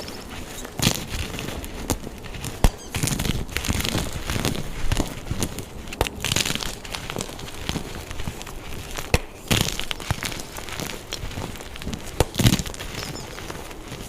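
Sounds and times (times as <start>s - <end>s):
chalk blocks crunching and cracking: 0.0s - 14.0s.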